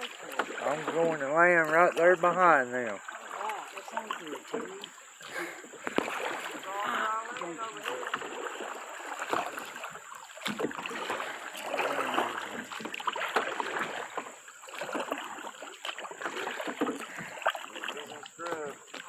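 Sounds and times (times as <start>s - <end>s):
paddle strokes splashing: 0.0s - 19.0s
water sloshing against hull: 0.0s - 19.0s.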